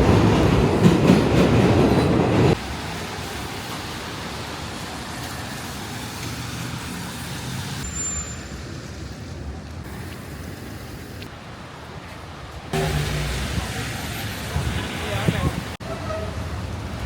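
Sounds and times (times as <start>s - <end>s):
passing vehicles hiss and rumble: 2.5s - 17.0s.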